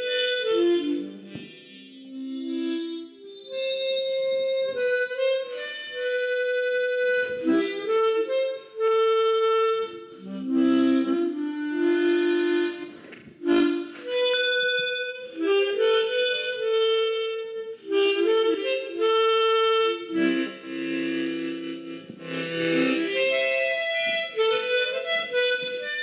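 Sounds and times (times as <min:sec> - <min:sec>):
slow instrumental melody: 0:00.0 - 0:26.0.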